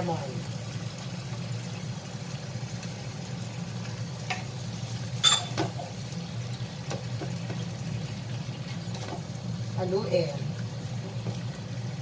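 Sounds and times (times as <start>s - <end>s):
spatula stirring food frying in pan: 0.0s - 12.0s.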